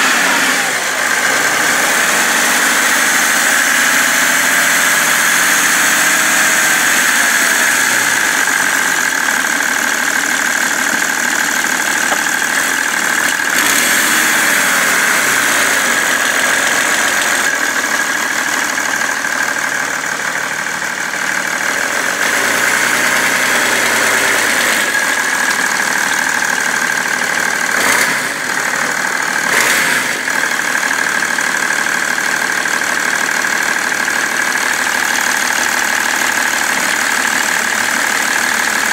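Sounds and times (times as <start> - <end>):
diesel engine idling with knocking: 0.0 - 38.9.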